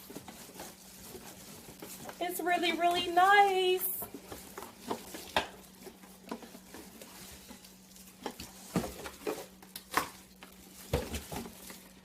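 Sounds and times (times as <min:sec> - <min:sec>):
cardboard and plastic packaging handled: 0:00.0 - 0:12.0.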